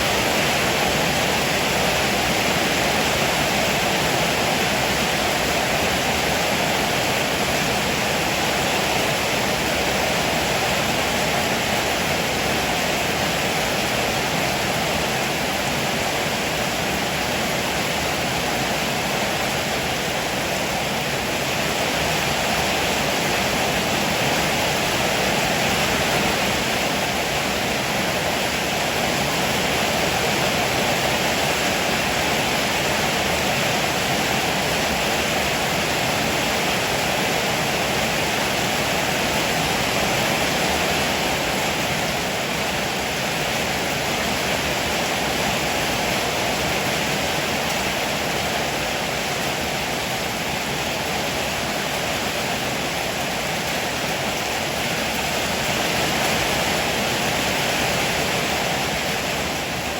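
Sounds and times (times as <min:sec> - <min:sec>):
heavy rain on a roof: 0:00.0 - 0:59.9.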